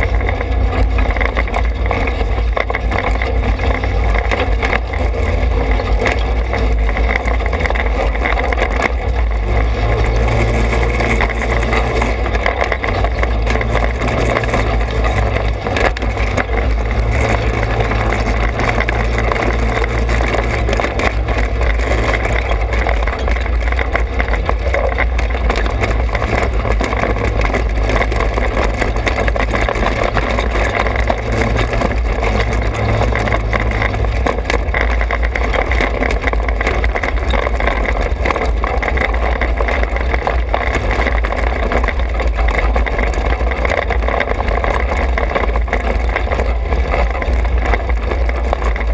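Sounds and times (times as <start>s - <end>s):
bike clicks and knocks: 0.0s - 48.9s.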